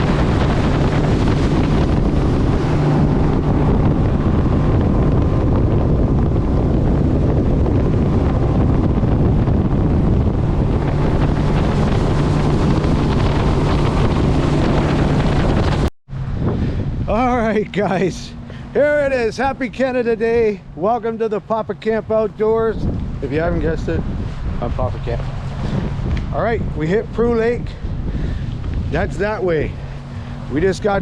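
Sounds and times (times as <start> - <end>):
motorboat engine running: 0.0 - 31.0
wind buffeting microphone: 0.0 - 31.0.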